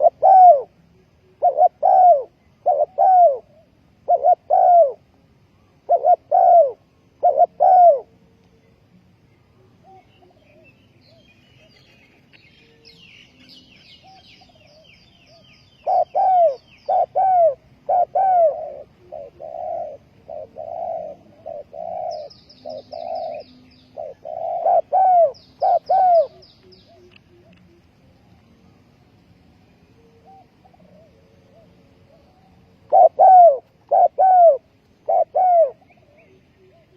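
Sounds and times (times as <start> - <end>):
dove cooing: 0.0 - 8.2, 9.6 - 12.2, 13.4 - 27.8, 30.1 - 36.9.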